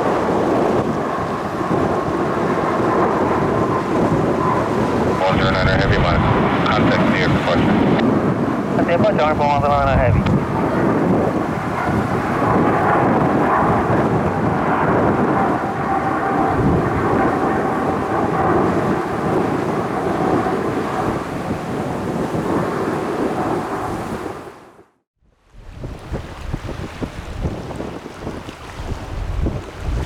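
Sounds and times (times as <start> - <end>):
jet airliner engines: 0.0 - 24.9.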